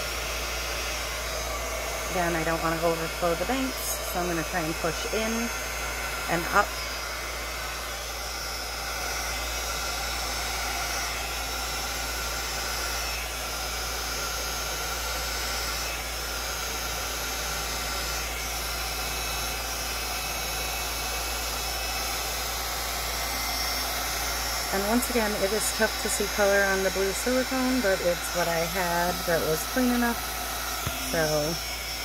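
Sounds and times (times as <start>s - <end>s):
heat gun blowing: 0.0s - 32.0s.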